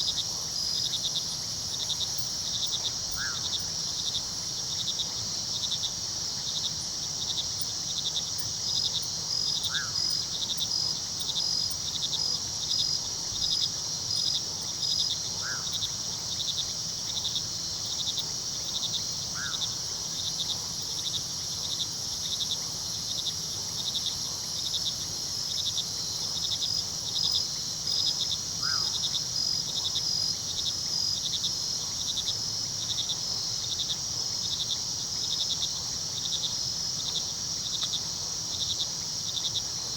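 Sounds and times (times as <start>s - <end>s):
crickets trilling and chirping: 0.0s - 39.9s.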